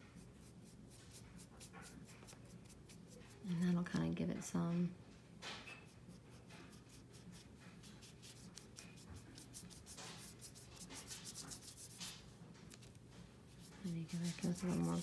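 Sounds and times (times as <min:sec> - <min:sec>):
paintbrush rubbing on paper: 0:00.0 - 0:03.5, 0:05.9 - 0:12.9, 0:13.5 - 0:15.0.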